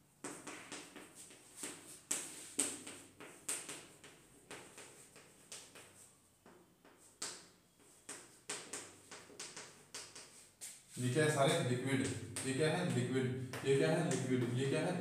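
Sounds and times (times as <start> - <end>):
chalk tapping and scratching on chalkboard: 0.2 - 15.0.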